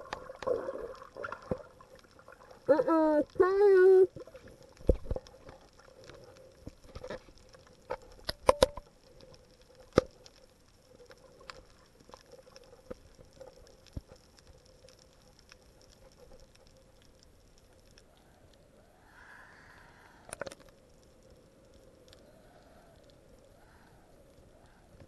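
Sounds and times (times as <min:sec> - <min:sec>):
faint steady hum: 0:00.0 - 0:25.0
underwater clicks and crackles: 0:00.0 - 0:25.0.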